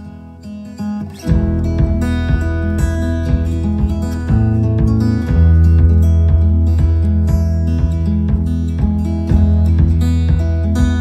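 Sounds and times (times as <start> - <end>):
instrumental music with deep bass: 0.0 - 11.0.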